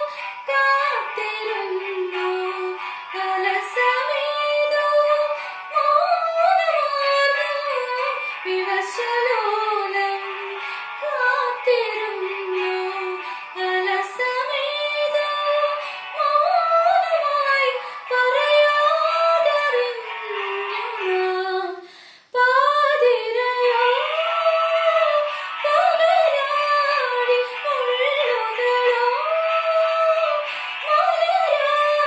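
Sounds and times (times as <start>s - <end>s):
woman singing slow melody: 0.0s - 32.0s.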